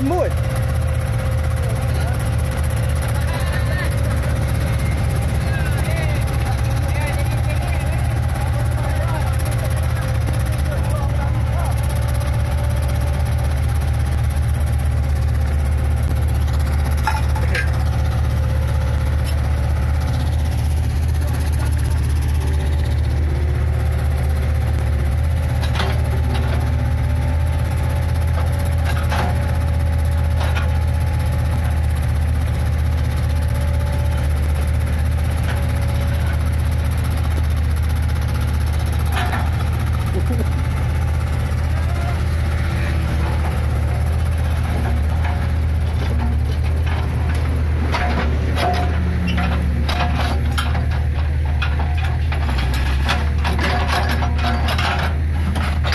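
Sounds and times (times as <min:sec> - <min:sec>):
diesel engines rumbling: 0:00.0 - 0:55.9.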